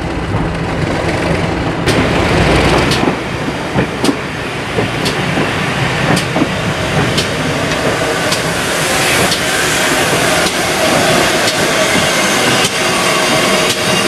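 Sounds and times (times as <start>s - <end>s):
diesel train rumbling past: 0.0s - 14.0s
sharp clicks of train: 0.0s - 14.0s
steam train rumbling: 0.0s - 14.0s.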